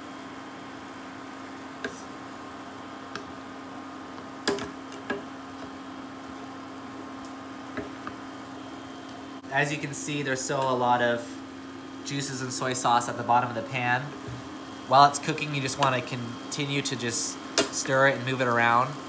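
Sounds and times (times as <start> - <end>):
cooktop hum: 0.0 - 19.0.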